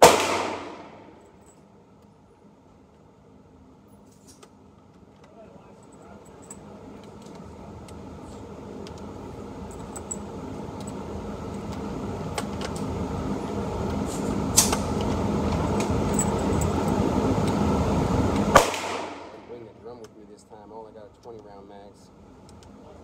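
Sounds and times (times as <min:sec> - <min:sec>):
mechanical rumble with low hum: 0:00.0 - 0:23.0.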